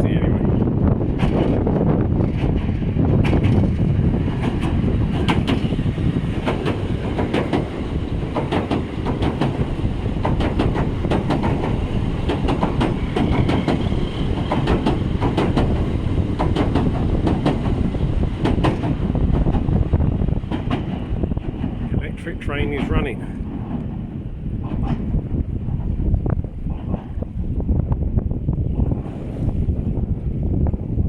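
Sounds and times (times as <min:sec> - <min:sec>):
train wheels clacking on rails: 0:00.9 - 0:27.4.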